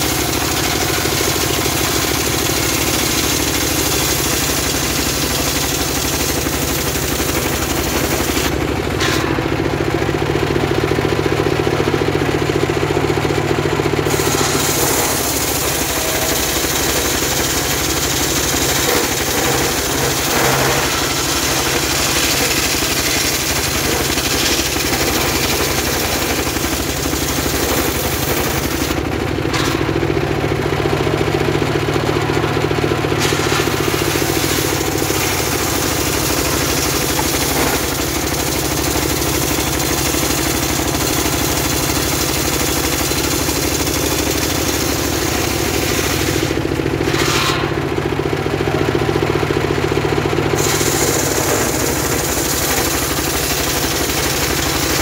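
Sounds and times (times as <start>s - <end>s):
saw blade cutting log: 0.0s - 9.6s, 14.0s - 30.0s, 33.1s - 47.9s, 50.5s - 55.0s
engine running steadily: 0.0s - 55.0s.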